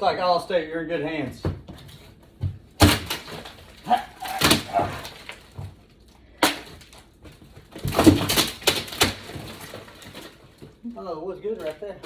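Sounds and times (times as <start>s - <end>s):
wood knocking and cracking: 1.3s - 12.0s.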